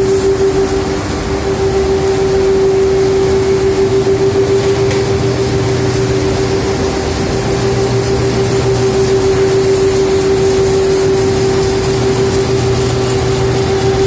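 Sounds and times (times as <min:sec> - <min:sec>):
low hum: 0:00.0 - 0:14.0
mid-pitched hum: 0:00.0 - 0:14.0
steady machine drone: 0:00.0 - 0:14.0.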